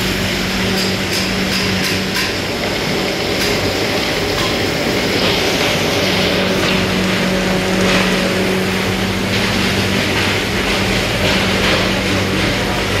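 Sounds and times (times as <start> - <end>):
loud machinery noise: 0.0 - 13.0.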